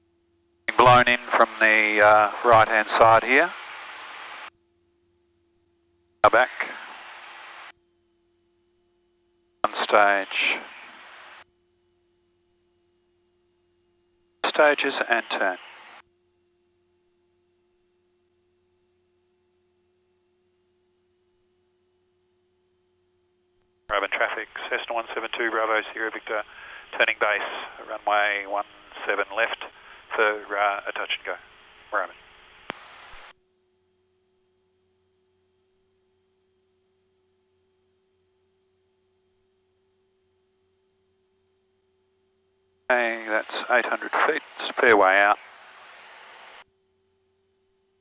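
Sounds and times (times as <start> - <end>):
faint steady hum: 0.0 - 48.0
quiet hiss: 0.0 - 48.0.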